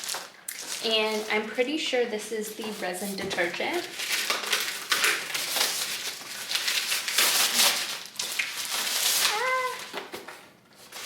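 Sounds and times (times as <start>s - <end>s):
plastic packaging crinkling: 0.0s - 1.8s, 2.5s - 11.0s.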